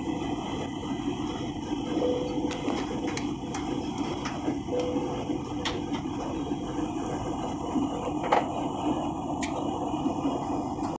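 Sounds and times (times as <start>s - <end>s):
airliner cabin hum: 0.0s - 11.0s.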